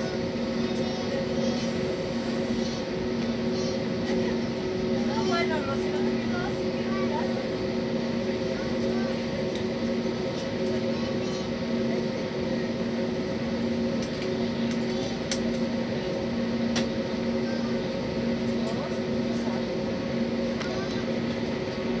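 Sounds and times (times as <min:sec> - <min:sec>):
airliner cabin hum: 0:00.0 - 0:22.0.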